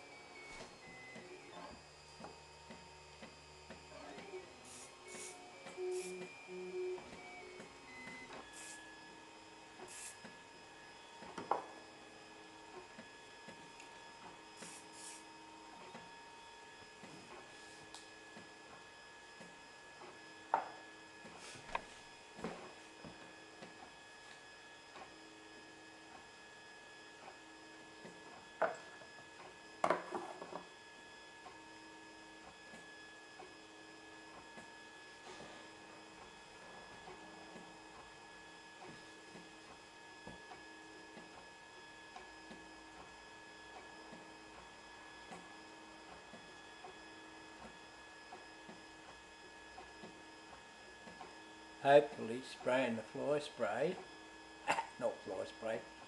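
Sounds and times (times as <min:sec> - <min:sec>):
three d printer humming: 0:00.0 - 0:56.0.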